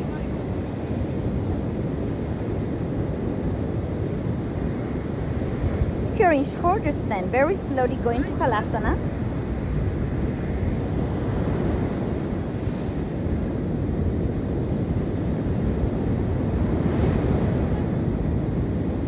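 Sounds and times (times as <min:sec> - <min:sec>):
surf washing on a beach: 0:00.0 - 0:19.0
wind on microphone: 0:00.0 - 0:19.0.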